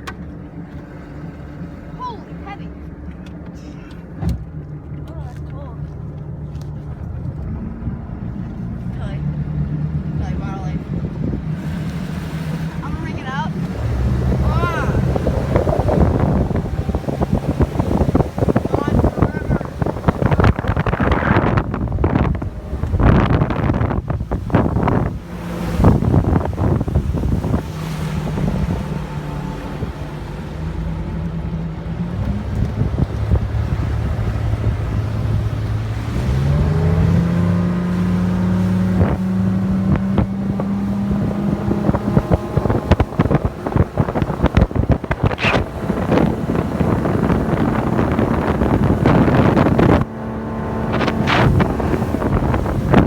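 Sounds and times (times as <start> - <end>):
motorboat engine running: 0.0 - 53.0
wind buffeting microphone: 6.0 - 53.0.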